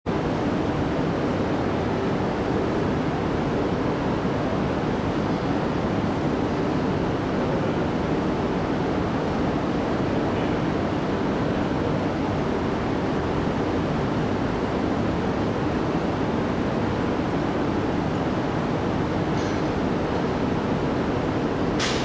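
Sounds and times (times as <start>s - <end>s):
rushing city background noise: 0.1s - 22.0s.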